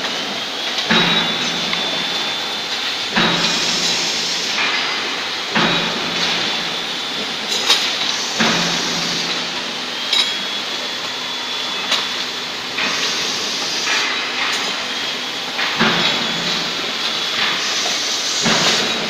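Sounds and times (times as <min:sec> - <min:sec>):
bench drill whirring: 0:00.0 - 0:19.0.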